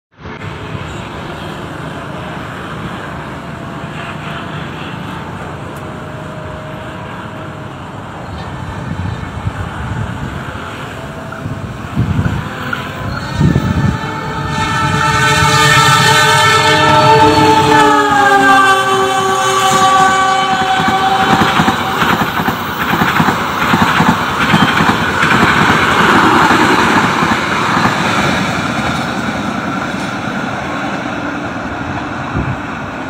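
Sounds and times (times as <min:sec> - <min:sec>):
distant train rumbling: 0:00.2 - 0:33.0.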